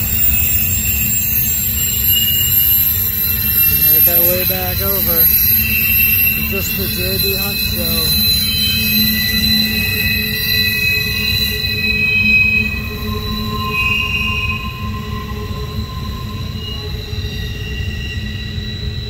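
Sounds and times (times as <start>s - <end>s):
train wheels squealing: 0.0s - 19.0s.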